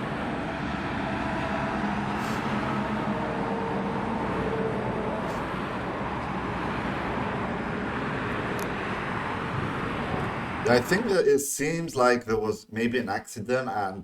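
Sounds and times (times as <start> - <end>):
low engine hum: 0.0 - 11.4
motorway traffic rushing: 0.0 - 14.0.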